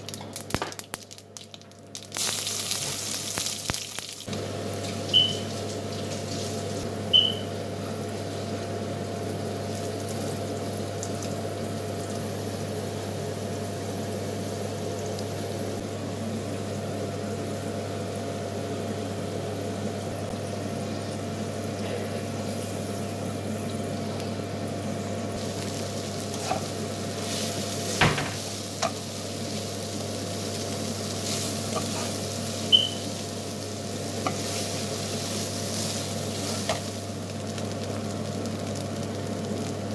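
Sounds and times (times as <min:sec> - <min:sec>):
potatoes sizzling in oil: 0:00.0 - 0:15.8, 0:20.3 - 0:39.9.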